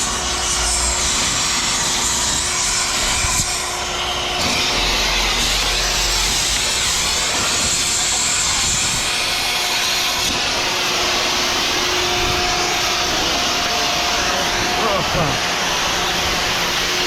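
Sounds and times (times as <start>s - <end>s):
cutting torch hissing: 0.0s - 17.0s.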